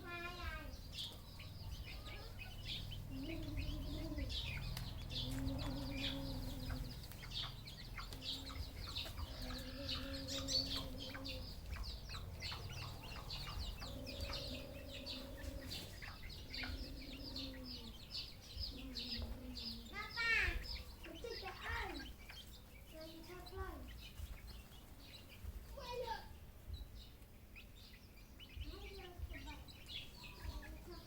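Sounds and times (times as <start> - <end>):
high-pitched chirping: 0.0 - 31.0
wild chickens calling: 0.0 - 31.0.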